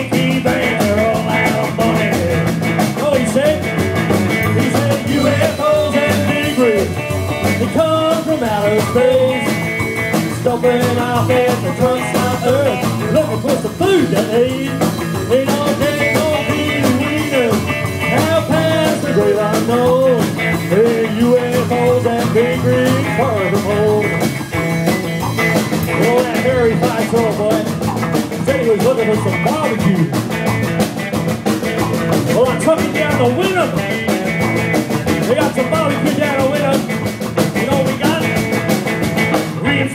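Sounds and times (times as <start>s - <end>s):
rockabilly band playing live: 0.0s - 39.9s.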